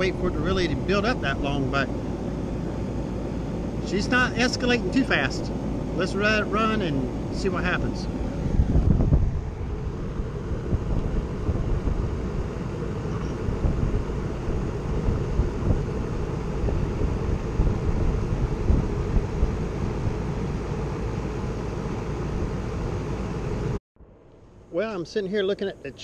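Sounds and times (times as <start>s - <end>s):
heat pump running: 0.0s - 23.8s.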